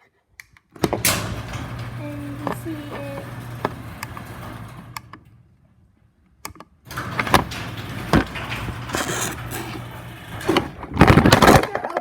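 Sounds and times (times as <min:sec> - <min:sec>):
garage door opener running: 0:00.7 - 0:05.9, 0:06.8 - 0:12.0.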